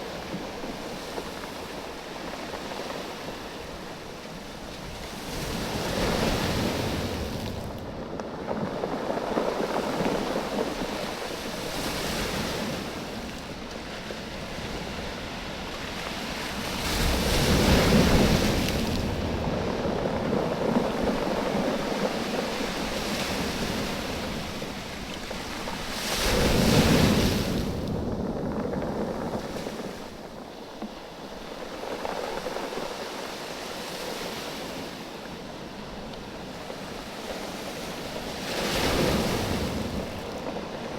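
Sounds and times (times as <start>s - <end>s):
waves washing on beach: 0.0s - 40.9s.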